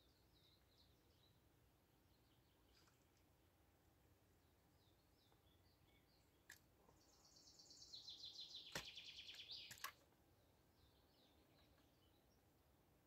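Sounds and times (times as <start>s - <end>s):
songbird chirps and trill: 0.0s - 3.4s, 4.0s - 13.0s.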